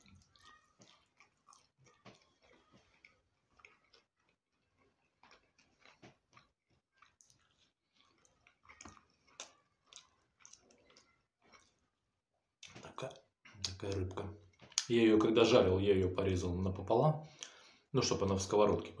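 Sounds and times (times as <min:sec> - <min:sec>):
person chewing and mouth smacks: 0:00.0 - 0:15.0, 0:17.3 - 0:17.8.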